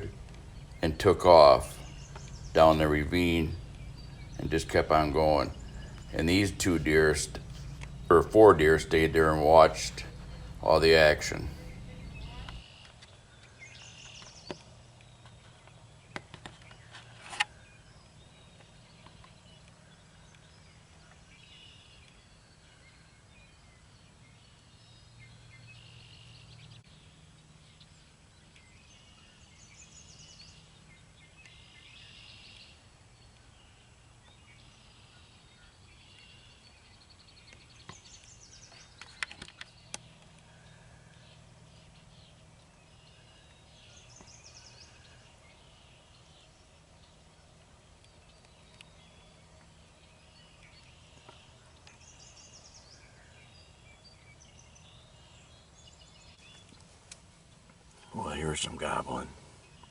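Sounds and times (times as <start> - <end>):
faint songbird calls: 0.0 - 59.9.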